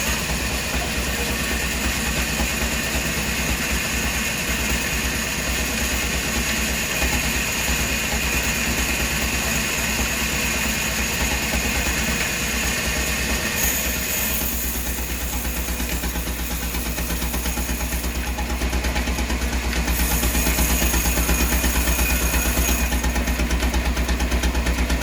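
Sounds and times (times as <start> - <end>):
wood-cutting machinery humming: 0.0 - 25.0.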